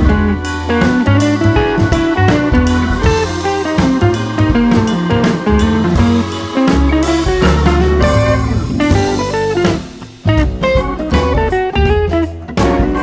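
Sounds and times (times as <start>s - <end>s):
blues-rock music: 0.0s - 13.0s.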